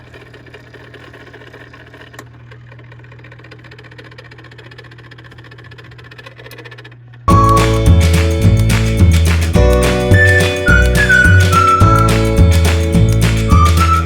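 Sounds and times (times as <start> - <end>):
rapid grinding-clicking: 0.0 - 14.0.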